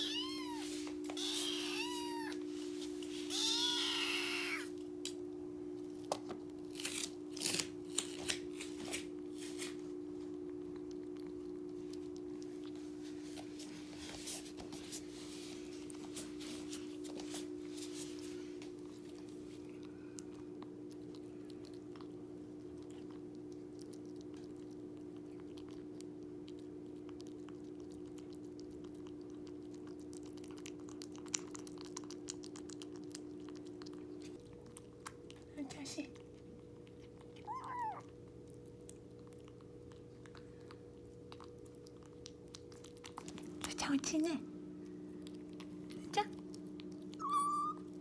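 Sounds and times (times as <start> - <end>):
kitten chewing and crunching: 0.0 - 48.0
steady low hum: 0.0 - 48.0.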